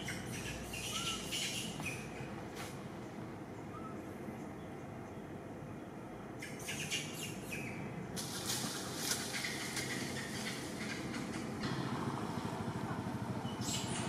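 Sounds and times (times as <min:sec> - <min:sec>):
birds chirping: 0:00.0 - 0:08.2, 0:08.8 - 0:14.0
steady outdoor hiss: 0:00.0 - 0:14.0.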